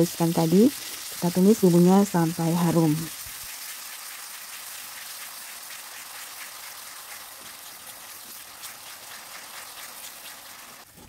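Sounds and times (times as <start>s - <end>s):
spice paste sizzling in hot oil: 0.0s - 11.0s.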